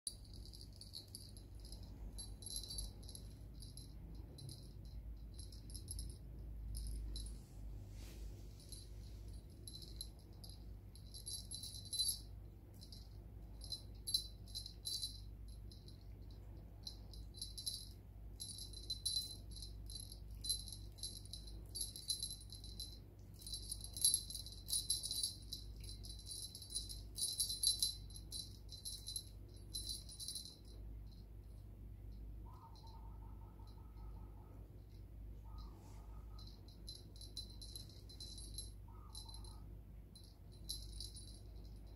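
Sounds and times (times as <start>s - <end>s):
small bell jingling: 0.1s - 41.9s.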